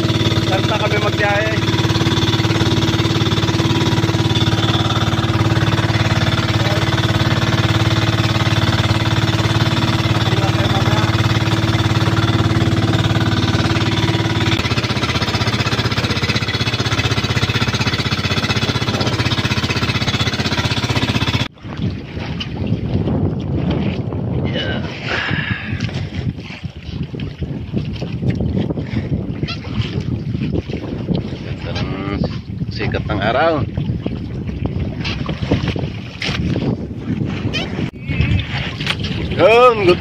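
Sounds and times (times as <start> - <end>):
boat engine knocking: 0.0 - 24.4, 27.1 - 40.0.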